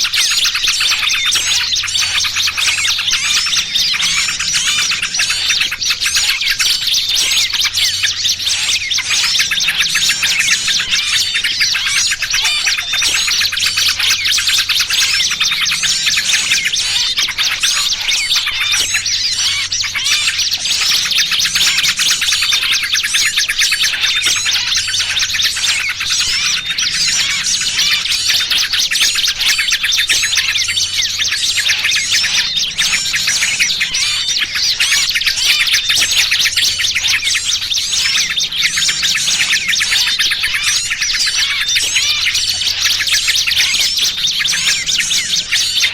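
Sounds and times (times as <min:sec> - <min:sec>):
bulbul calls: 0:00.0 - 0:45.9
small birds chirping: 0:00.0 - 0:45.9.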